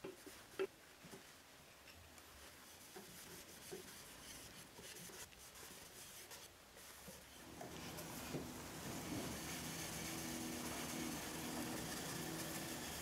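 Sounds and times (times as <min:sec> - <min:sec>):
cloth pad rubbing on wood: 0:02.5 - 0:13.0.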